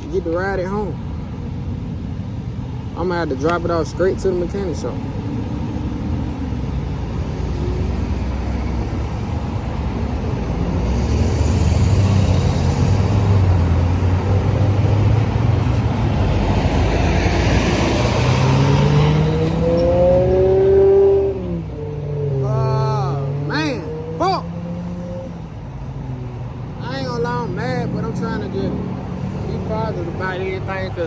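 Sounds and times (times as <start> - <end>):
road traffic passing: 0.0 - 31.0
vehicle engine accelerating: 4.8 - 31.0.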